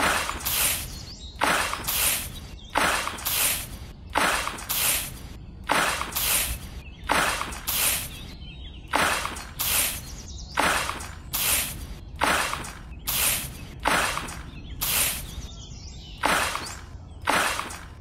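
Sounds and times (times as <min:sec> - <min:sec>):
toy shovel scooping sand: 0:00.0 - 0:15.5, 0:16.2 - 0:18.0.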